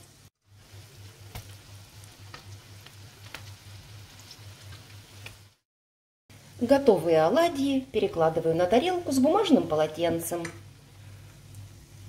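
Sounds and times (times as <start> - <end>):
faint frying sizzle: 0.0 - 5.6, 6.3 - 12.0.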